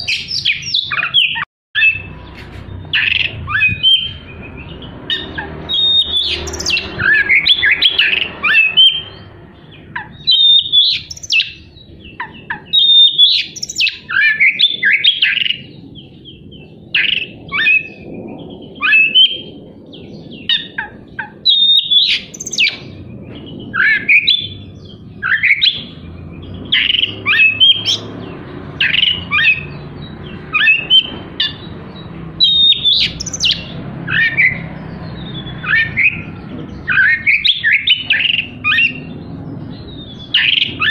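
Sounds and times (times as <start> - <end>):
bird singing whistled song: 0.0 - 40.9.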